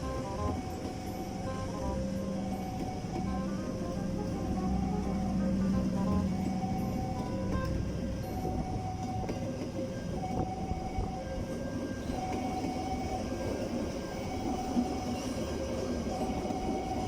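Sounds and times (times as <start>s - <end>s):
high held tones: 0.0s - 15.4s
train wagons rumbling over rails: 0.0s - 17.0s.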